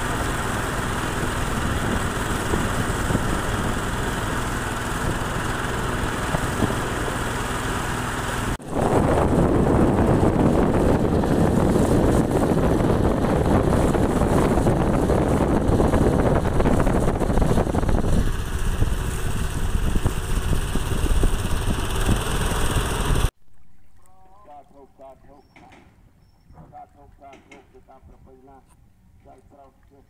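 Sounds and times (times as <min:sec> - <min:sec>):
boat engine running: 0:00.0 - 0:25.5.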